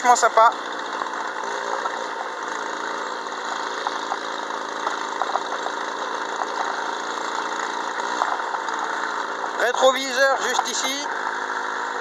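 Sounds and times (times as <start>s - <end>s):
moped engine running: 0.0s - 12.0s.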